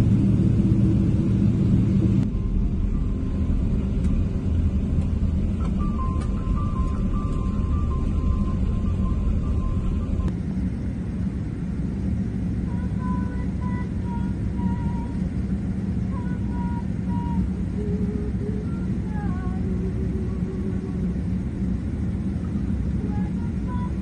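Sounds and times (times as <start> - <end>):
airliner engine rumble in cabin: 0.0 - 24.0.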